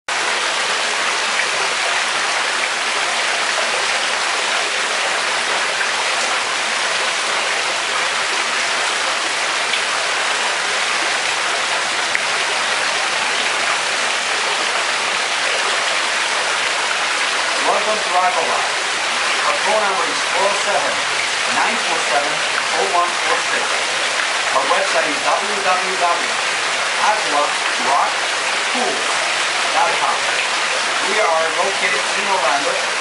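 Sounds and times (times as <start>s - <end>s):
waterfall splashing into pool: 0.1s - 33.0s.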